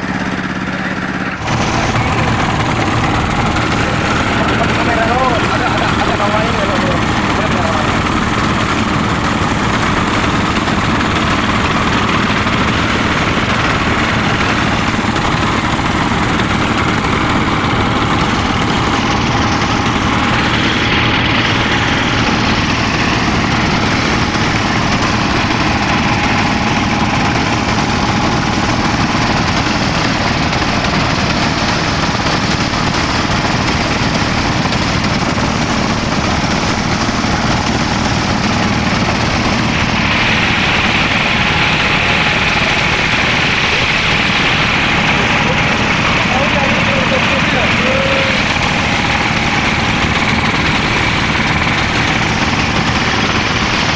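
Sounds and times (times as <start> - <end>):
boat engines droning: 0.0 - 53.9.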